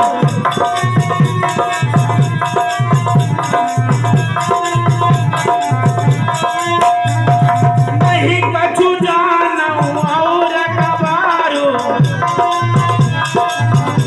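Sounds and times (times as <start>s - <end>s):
hand drum rhythm: 0.0s - 14.0s.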